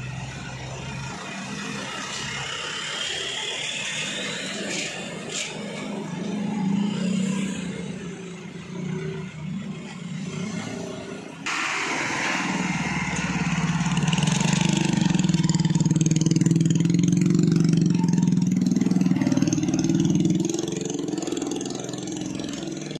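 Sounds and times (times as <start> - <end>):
small car engine passing: 0.0 - 22.9.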